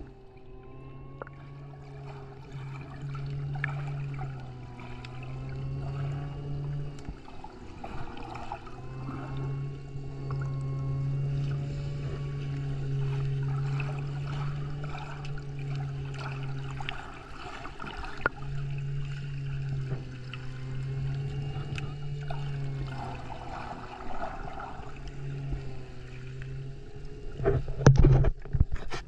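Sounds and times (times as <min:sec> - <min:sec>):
crackles and clicks: 0:00.0 - 0:26.0
faint wavering tones: 0:00.0 - 0:29.0
muffled underwater hum: 0:00.0 - 0:29.0.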